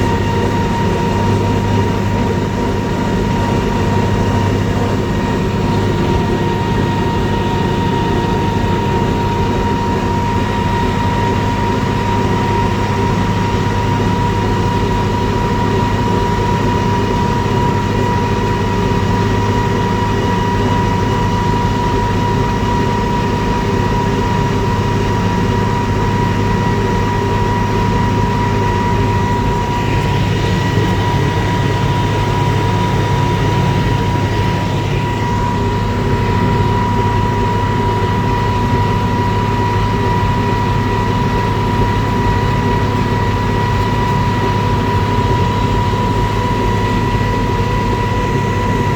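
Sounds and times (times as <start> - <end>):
tractor diesel engine drone: 0.0 - 48.9.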